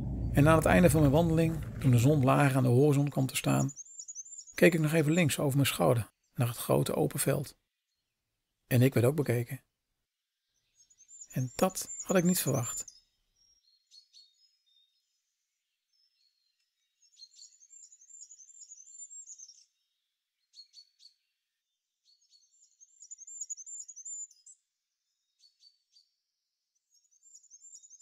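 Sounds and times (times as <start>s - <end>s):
small songbird singing: 0.0s - 8.1s, 10.4s - 28.0s.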